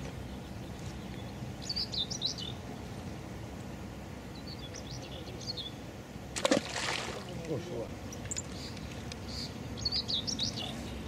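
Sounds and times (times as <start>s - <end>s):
small birds chirping: 0.0s - 6.0s, 7.2s - 11.0s
low background noise: 0.0s - 11.0s.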